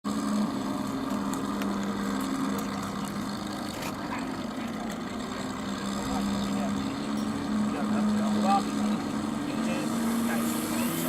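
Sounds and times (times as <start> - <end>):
simulated engine idle drone: 0.1 - 11.0.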